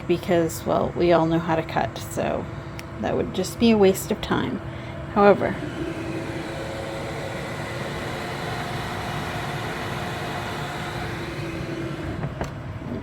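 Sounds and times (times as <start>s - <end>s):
food dehydrator fan humming: 0.0s - 13.0s.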